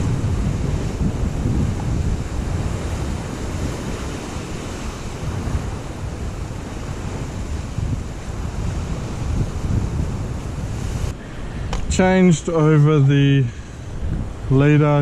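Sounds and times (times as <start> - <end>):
waves breaking against cliff: 0.0 - 15.0
wind buffeting microphone: 0.0 - 15.0.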